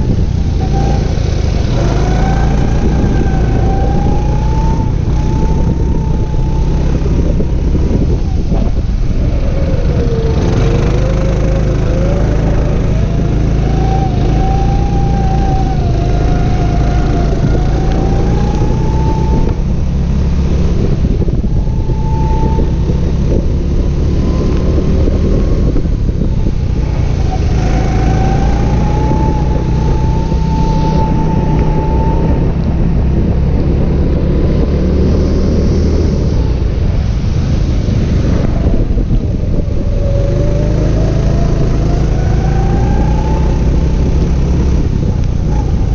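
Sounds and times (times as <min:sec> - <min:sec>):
go-kart engine whine: 0:00.0 - 0:45.9
steady rushing noise: 0:00.0 - 0:45.9.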